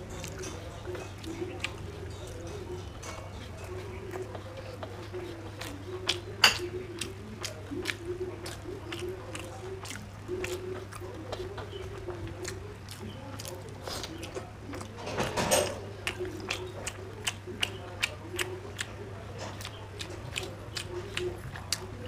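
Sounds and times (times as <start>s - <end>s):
person chewing and lip smacking: 0.0s - 22.0s.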